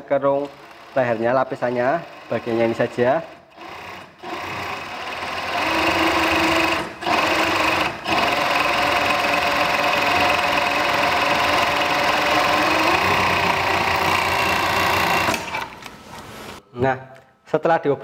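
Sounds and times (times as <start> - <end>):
overlock sewing machine running: 0.0 - 15.8.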